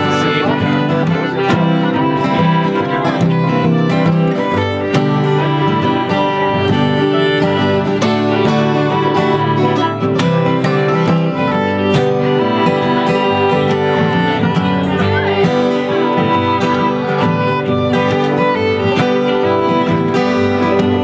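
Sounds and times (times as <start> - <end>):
fiddle melody: 0.0 - 21.0
mandolin: 0.0 - 21.0
strummed acoustic guitar: 0.0 - 21.0.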